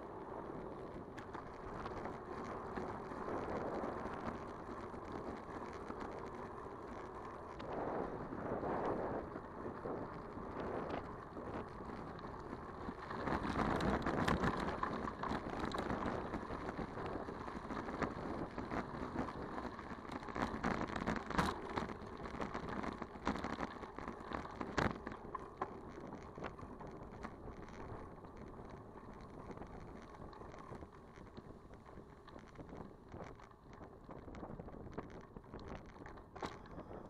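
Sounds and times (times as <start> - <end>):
bicycle clicks and rattles: 0.0 - 37.0
bicycle tyres crunching on gravel: 0.0 - 37.0.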